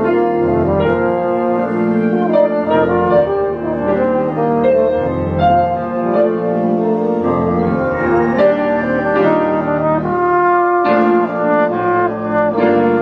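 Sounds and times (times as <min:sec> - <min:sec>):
french horn slow melody: 0:00.0 - 0:13.0.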